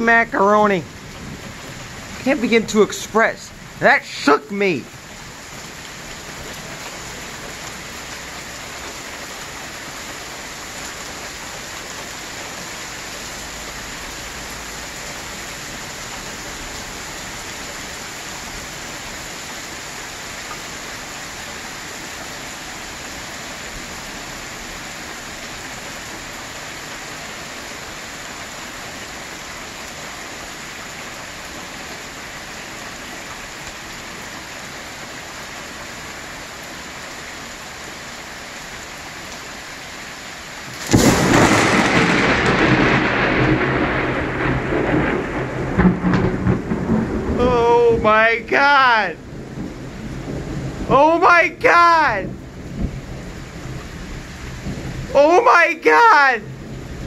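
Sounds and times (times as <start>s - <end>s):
heavy rain on pavement and cars: 0.0s - 57.0s.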